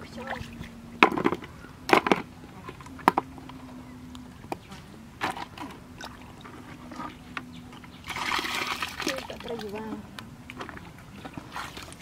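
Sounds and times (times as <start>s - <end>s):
faint steady low hum: 0.0s - 12.0s.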